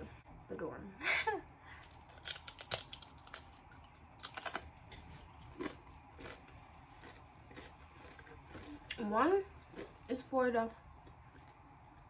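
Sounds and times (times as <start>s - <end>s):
tortilla chip crunching: 1.9s - 11.7s.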